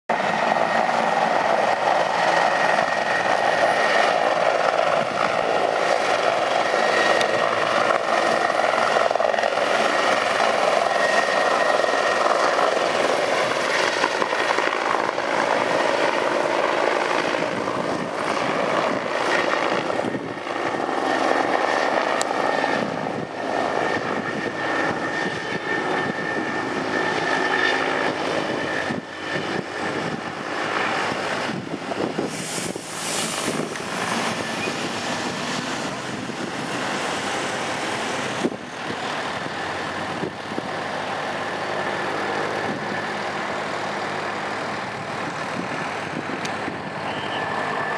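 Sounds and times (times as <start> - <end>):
helicopter high whine: 0.1 - 47.9
helicopter rotor and engine: 0.1 - 47.9.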